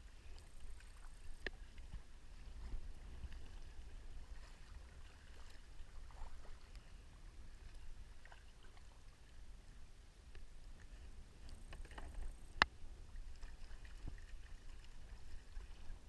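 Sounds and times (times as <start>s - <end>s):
paddle splashing and dripping: 0.0s - 7.0s, 7.6s - 9.3s, 11.5s - 16.0s.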